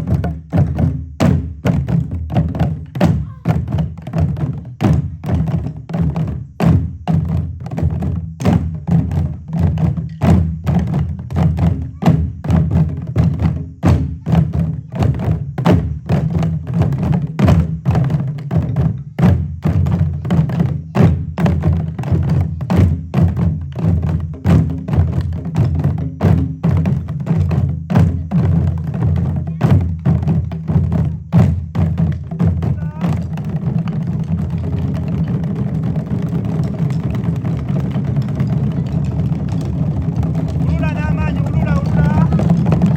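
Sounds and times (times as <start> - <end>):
group of drums beating: 0.0 - 42.9.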